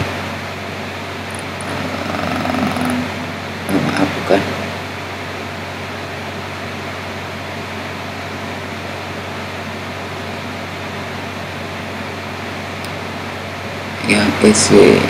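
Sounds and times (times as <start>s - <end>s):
background hiss: 0.0s - 15.0s
low even hum: 0.0s - 15.0s.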